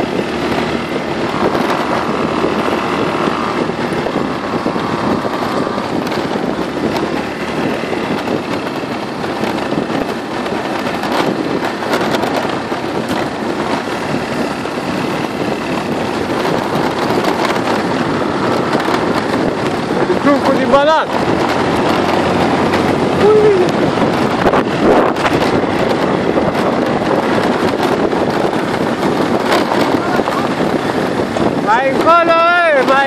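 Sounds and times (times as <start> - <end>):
scooter engine running: 0.0 - 33.0
wind noise on microphone: 0.0 - 33.0
knocks and rattles: 0.1 - 32.2.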